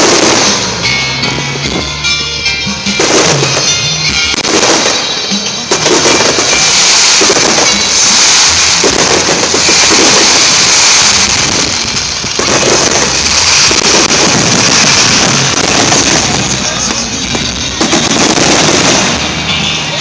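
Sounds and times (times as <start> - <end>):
fireworks banging and crackling: 0.0 - 20.0
music playing: 0.0 - 20.0.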